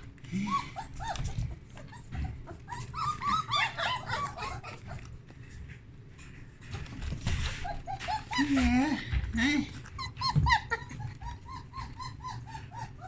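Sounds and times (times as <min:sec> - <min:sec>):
puppies crying: 0:00.0 - 0:05.7, 0:06.7 - 0:13.0.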